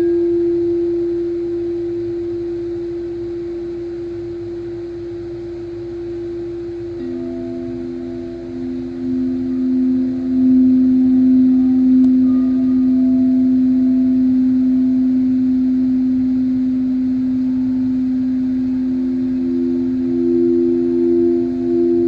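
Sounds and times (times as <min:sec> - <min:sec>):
high singing bowl tone: 0:00.0 - 0:22.0
low singing bowl tone: 0:00.0 - 0:22.0.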